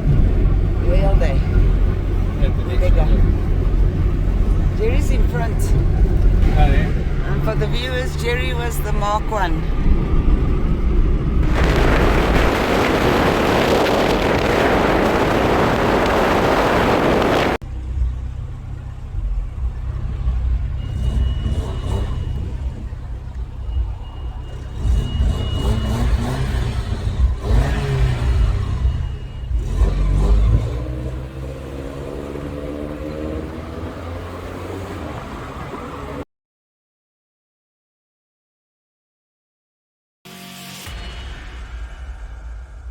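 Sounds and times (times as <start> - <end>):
car engine and tyre drone: 0.0 - 36.2
wind and road noise: 0.0 - 36.2.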